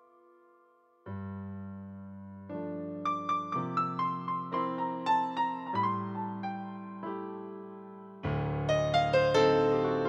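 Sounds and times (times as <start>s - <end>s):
digital piano melody: 0.0s - 10.0s
low piano chords: 0.0s - 10.0s.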